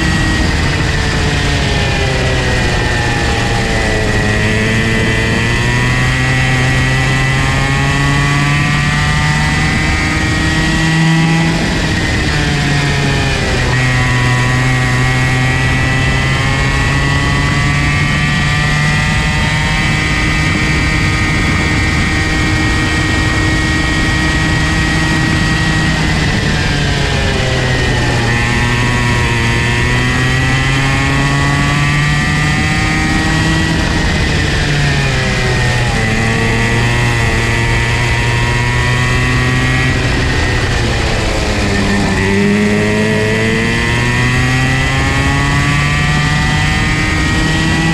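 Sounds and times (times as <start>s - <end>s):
go-kart engine revving: 0.0s - 47.9s.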